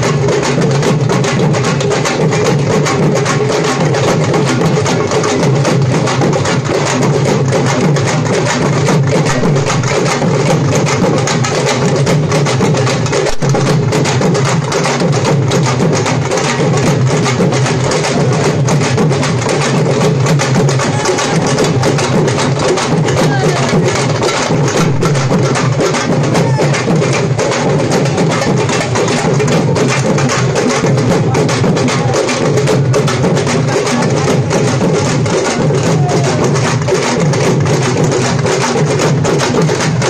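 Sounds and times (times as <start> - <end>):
music with fast drumming: 0.0 - 40.0.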